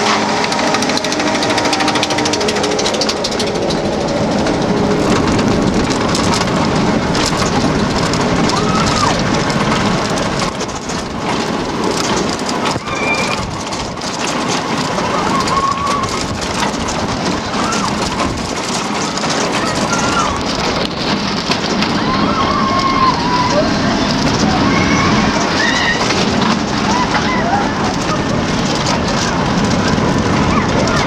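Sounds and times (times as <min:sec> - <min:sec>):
car rattling: 0:00.0 - 0:31.0
roller coaster car rushing: 0:00.0 - 0:31.0.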